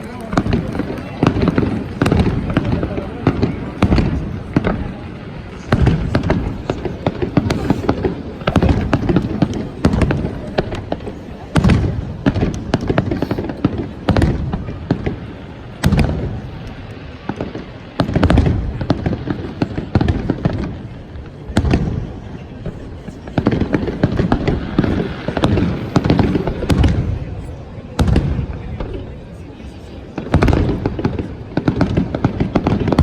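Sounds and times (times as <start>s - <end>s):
fireworks crackling and rumbling: 0.0s - 33.0s.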